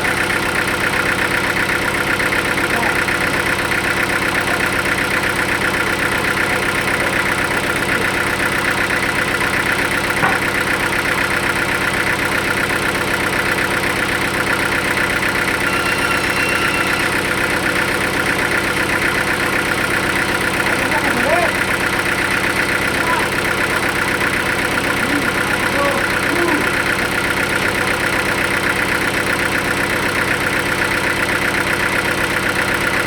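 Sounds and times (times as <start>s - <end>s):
sawmill machinery droning: 0.0s - 33.0s.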